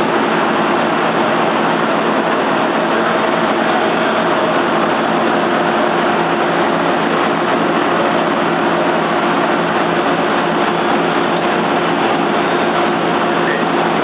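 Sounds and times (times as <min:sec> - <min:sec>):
lathe running: 0:00.0 - 0:14.0.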